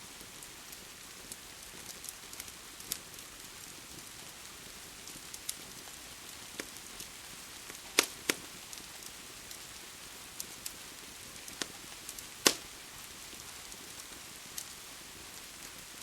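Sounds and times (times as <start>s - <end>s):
rain hiss: 0.0s - 16.0s
wood fire crackling: 0.0s - 16.0s.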